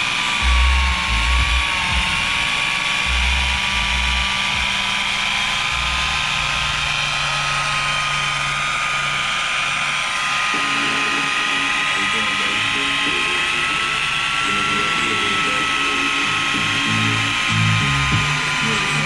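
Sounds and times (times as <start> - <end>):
electric polisher whining: 0.0 - 19.0.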